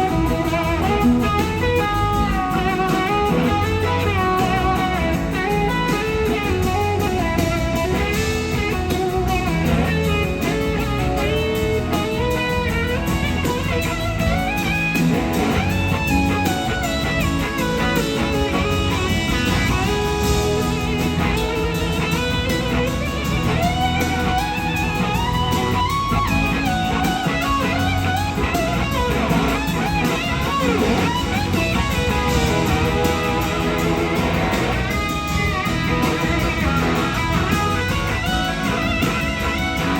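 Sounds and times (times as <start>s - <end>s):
blues-rock band: 0.0s - 39.9s.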